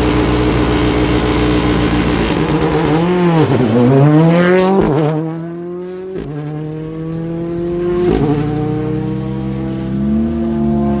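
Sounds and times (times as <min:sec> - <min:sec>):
rally car accelerating: 0:00.0 - 0:11.0.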